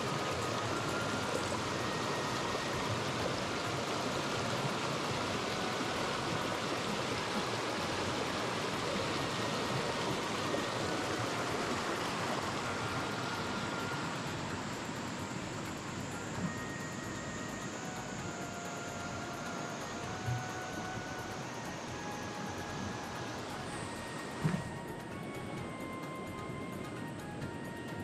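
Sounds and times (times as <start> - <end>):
stream rushing over rocks: 0.0 - 25.4.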